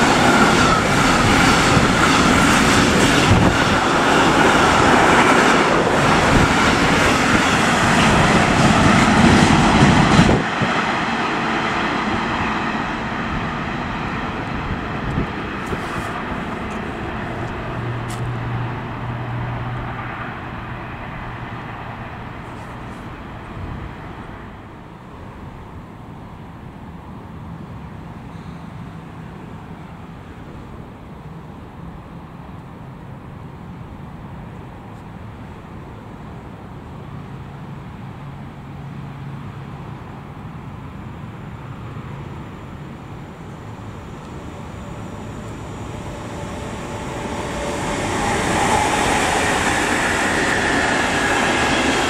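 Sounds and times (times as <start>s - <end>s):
freight train rushing past: 0.0s - 52.0s.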